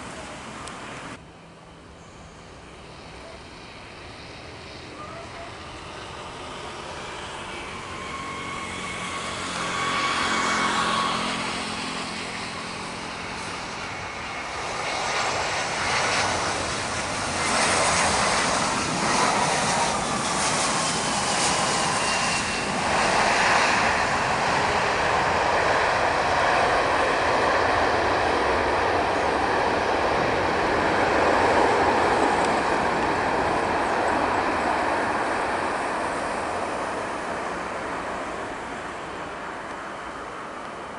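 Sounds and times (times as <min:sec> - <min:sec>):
jet engine whine: 0:00.0 - 0:40.9
jet engines at takeoff thrust: 0:00.0 - 0:40.9.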